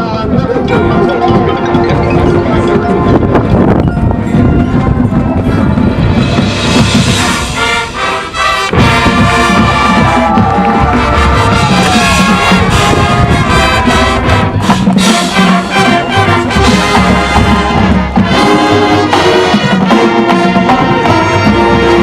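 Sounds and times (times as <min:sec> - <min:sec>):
marching band playing loudly: 0:00.0 - 0:22.0
sliding brass tone: 0:01.6 - 0:22.0.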